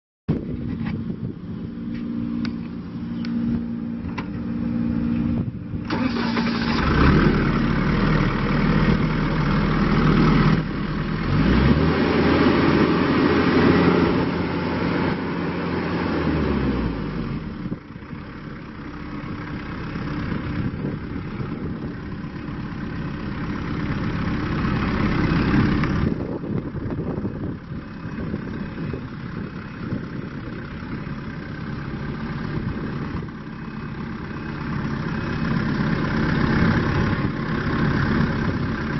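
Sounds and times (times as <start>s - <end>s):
tractor diesel engine revving: 3.5s - 38.9s.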